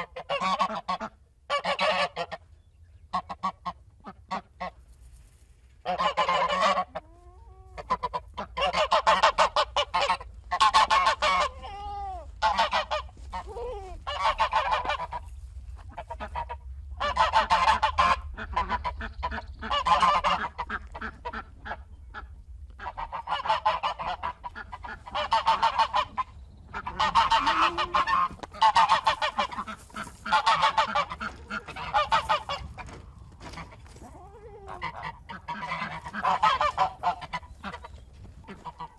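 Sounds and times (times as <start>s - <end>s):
goose honking: 0.0s - 2.4s, 3.1s - 4.8s, 5.8s - 38.9s
steady low rumble: 2.2s - 38.9s.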